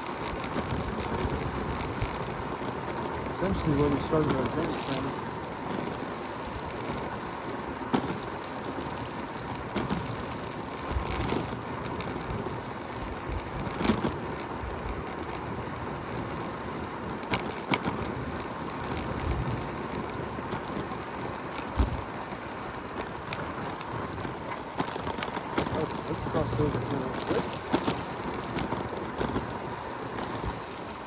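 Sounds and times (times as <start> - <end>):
wind rush and road noise: 0.0 - 31.0.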